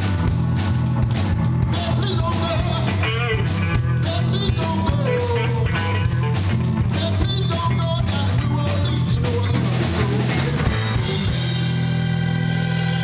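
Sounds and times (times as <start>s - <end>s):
blues-rock band playing live: 0.0s - 13.0s
repeating bass line: 0.0s - 13.0s
wavering lead guitar lines: 0.0s - 13.0s.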